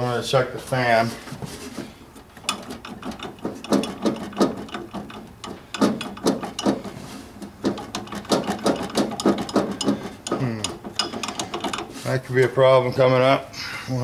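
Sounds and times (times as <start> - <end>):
cooling fan clicking and rattling: 1.4 - 13.3.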